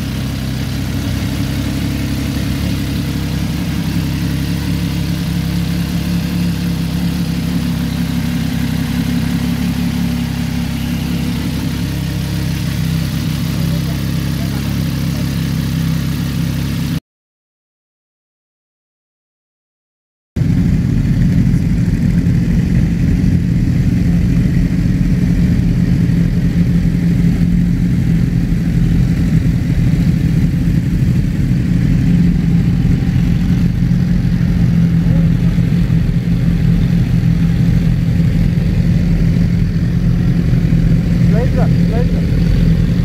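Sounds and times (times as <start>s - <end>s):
motorcycle engine idling: 0.0s - 17.0s, 20.4s - 43.0s.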